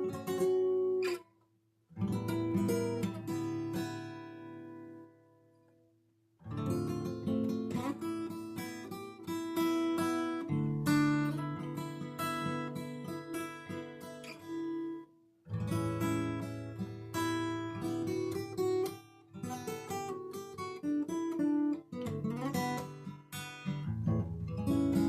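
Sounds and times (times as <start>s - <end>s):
acoustic guitar playing: 0.0s - 1.3s, 1.9s - 5.6s, 6.4s - 25.0s.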